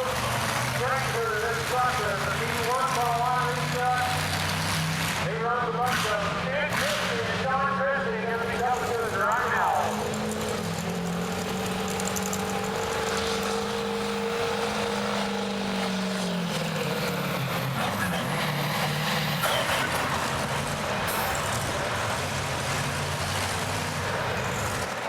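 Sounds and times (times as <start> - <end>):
diesel pickup engine at high revs: 0.0 - 25.0.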